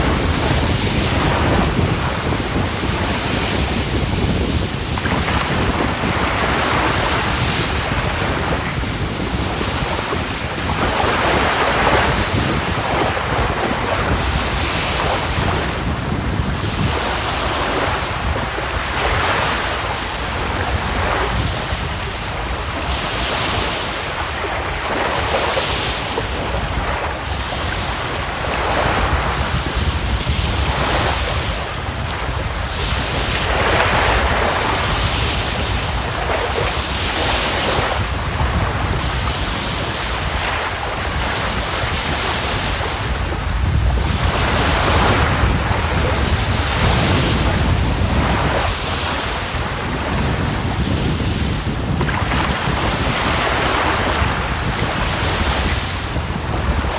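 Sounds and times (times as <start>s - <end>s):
waves breaking on shore: 0.0s - 56.9s
wind buffeting microphone: 0.0s - 56.9s.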